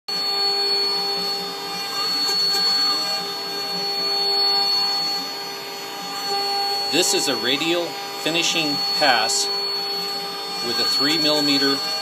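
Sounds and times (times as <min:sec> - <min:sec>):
router spindle whining: 0:00.1 - 0:12.0
stepper motor tones: 0:00.1 - 0:12.0.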